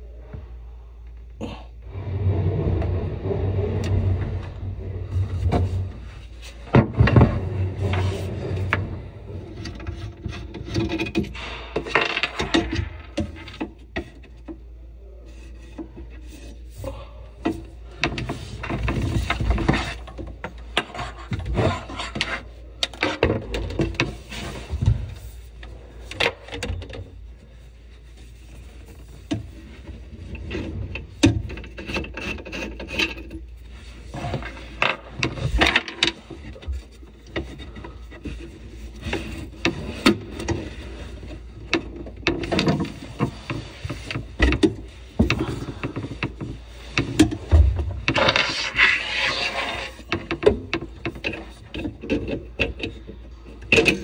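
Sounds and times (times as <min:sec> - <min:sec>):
hoses scraping against cabinet: 0:01.8 - 0:14.1, 0:15.3 - 0:54.0
clicks and scrapes: 0:01.8 - 0:14.6, 0:15.2 - 0:54.0.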